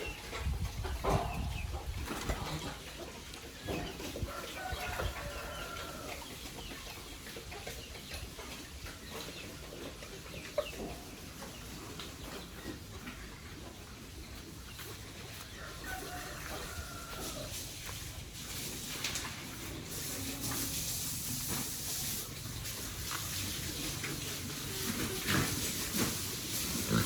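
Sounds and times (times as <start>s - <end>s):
chickens clucking: 0.0s - 27.0s
farmyard background: 0.0s - 27.0s.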